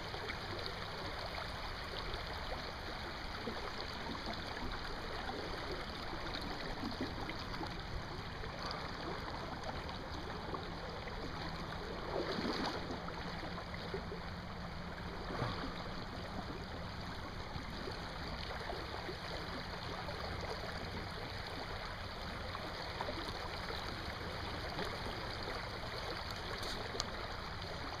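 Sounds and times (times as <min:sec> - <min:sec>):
river water running: 0:00.0 - 0:28.0.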